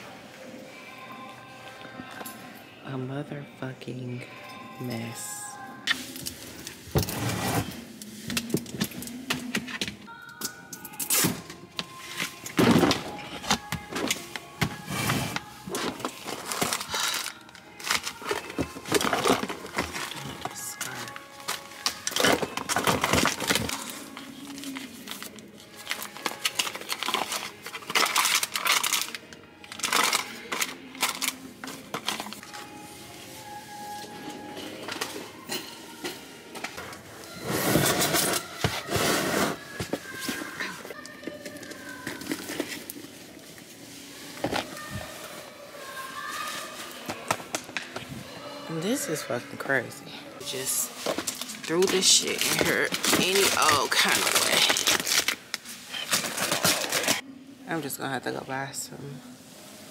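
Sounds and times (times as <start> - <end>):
clothes and plastic bags rustling: 3.9 - 59.9.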